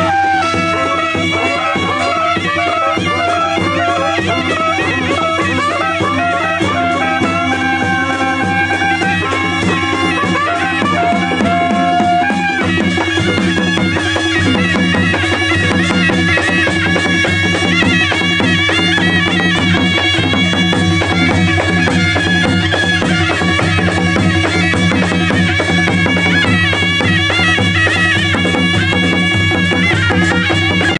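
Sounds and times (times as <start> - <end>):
shrill double-reed pipe melody: 0.0 - 30.9
steady drumming: 0.0 - 30.9.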